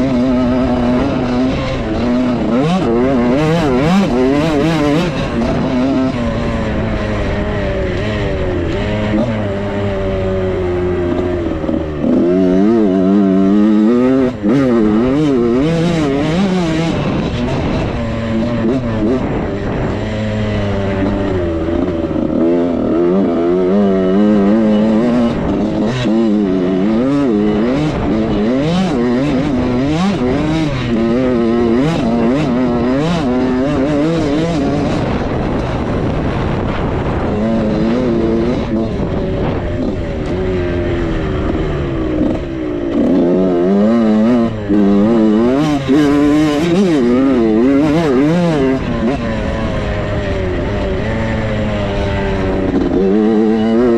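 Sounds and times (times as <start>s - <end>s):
two-stroke motorbike engine revving: 0.0s - 53.9s.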